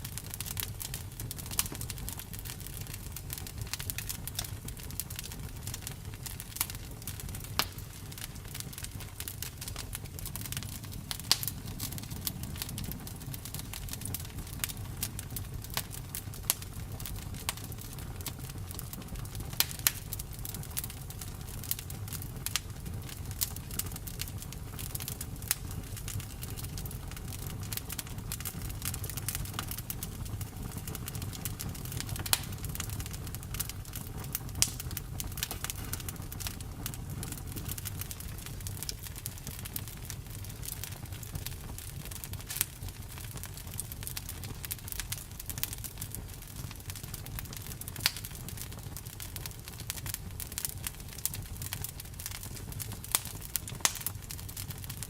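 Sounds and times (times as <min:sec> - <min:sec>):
burning wood crackling and popping: 0:00.0 - 0:55.0
campfire flames rumbling: 0:00.0 - 0:55.0.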